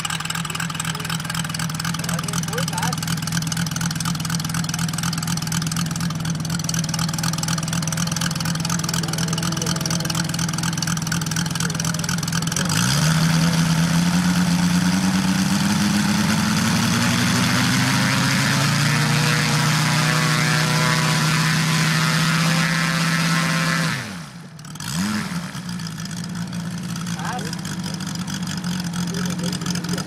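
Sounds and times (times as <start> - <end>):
model aircraft engine revving: 0.0 - 30.0.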